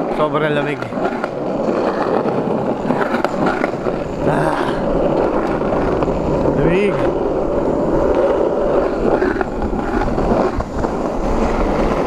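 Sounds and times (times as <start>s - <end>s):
street noise: 0.0s - 12.0s
wind rumbling on microphone: 0.0s - 12.0s.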